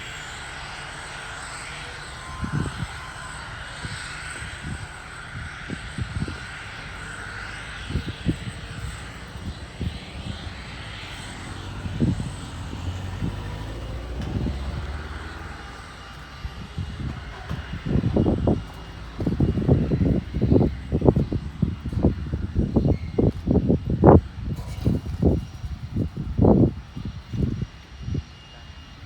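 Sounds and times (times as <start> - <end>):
jet engines whining: 0.0 - 29.0
wind buffeting microphone: 2.2 - 29.0.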